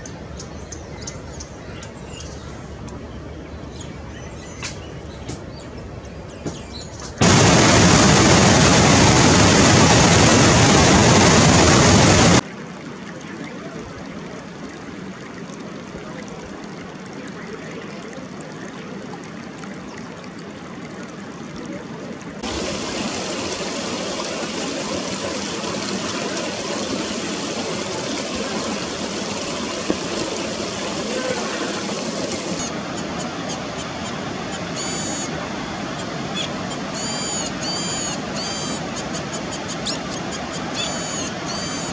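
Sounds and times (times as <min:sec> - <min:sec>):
stream water rushing: 0:07.2 - 0:41.9.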